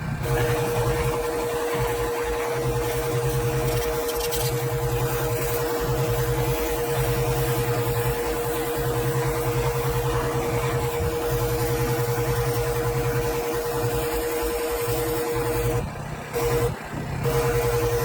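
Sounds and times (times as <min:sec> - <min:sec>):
pressure washer motor hum: 0:00.0 - 0:18.0.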